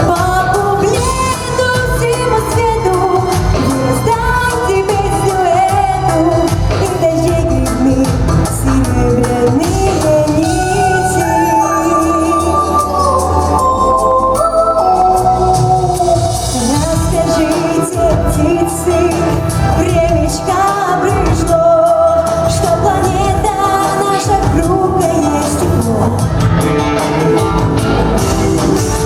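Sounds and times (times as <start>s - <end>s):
girl singing pop ballad: 0.0s - 26.6s
backing track with beat: 0.0s - 29.0s.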